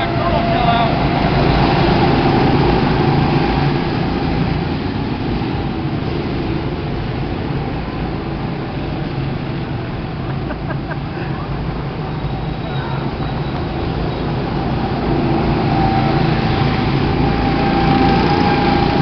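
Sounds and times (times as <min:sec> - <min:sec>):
go-kart engines: 0:00.0 - 0:19.0.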